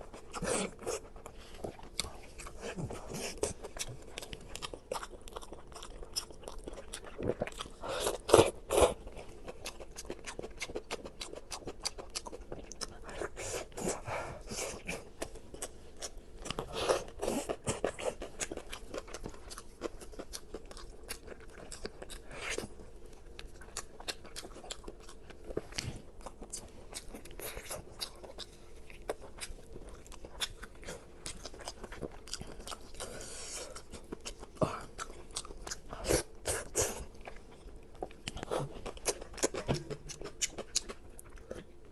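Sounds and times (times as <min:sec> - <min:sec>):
crunchy food chewing: 0:00.0 - 0:41.9.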